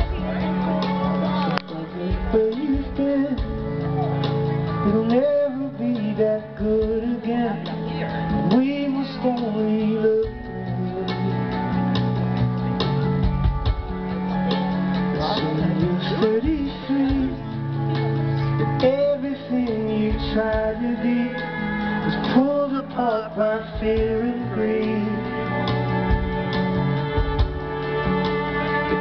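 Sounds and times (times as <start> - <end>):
person singing: 0.0 - 11.8, 15.1 - 29.0
live rock band playing: 0.0 - 29.0.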